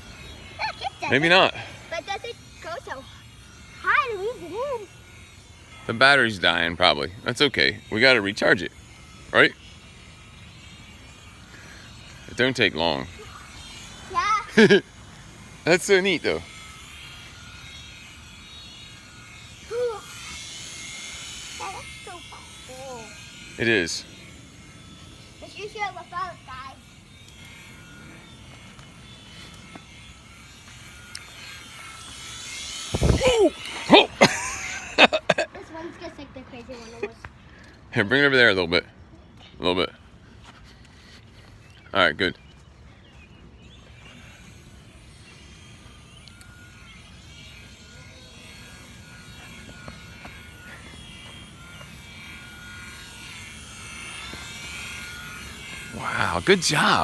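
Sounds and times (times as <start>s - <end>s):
toy helicopter motor whirring: 0.0s - 57.0s.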